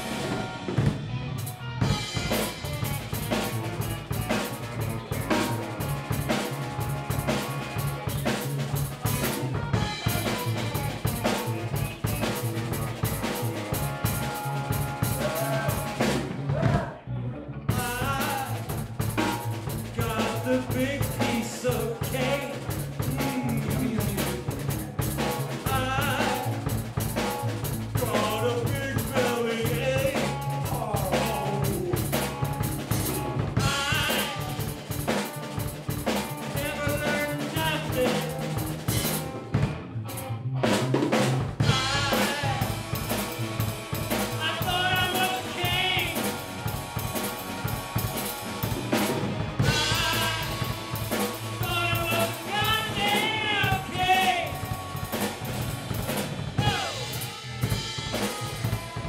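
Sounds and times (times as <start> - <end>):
drum kit: 0.0 - 17.0, 17.7 - 59.0
electric bass: 0.0 - 59.0
electric guitar lead lines: 0.0 - 59.0.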